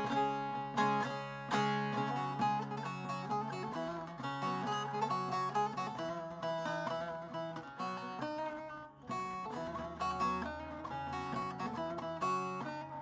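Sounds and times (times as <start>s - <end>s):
plucked string melody: 0.0s - 13.0s.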